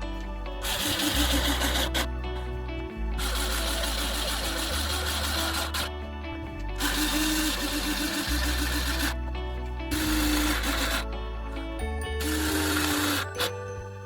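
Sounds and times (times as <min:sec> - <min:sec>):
held bass notes: 0:00.0 - 0:14.0.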